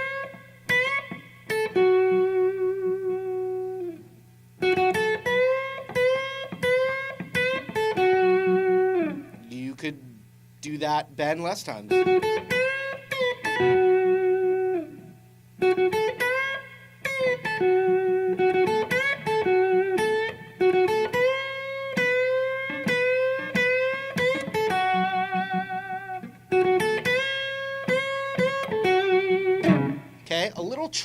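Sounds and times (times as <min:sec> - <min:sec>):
electric guitar blues lick: 0:00.0 - 0:10.2, 0:11.9 - 0:30.2.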